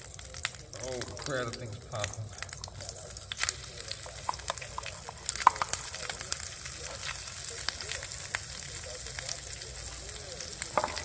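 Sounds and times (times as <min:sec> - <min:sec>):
broccoli sizzling: 0:00.0 - 0:11.0
butter spattering pops: 0:00.0 - 0:11.0.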